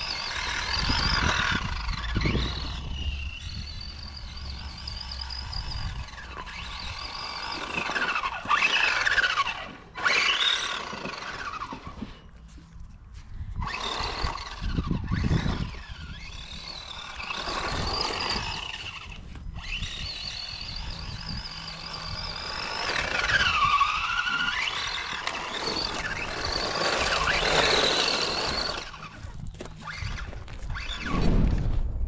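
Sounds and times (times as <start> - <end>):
electric toy car motor whining: 0.0 - 12.5, 13.6 - 31.2
tyres crunching on gravel: 0.0 - 31.9.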